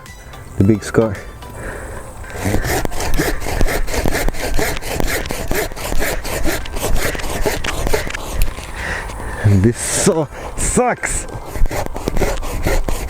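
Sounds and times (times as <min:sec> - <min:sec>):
hand saw cutting branch: 0:00.0 - 0:13.0.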